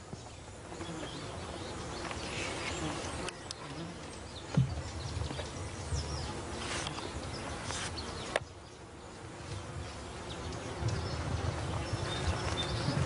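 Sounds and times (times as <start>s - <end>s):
flies buzzing: 0.0s - 13.0s.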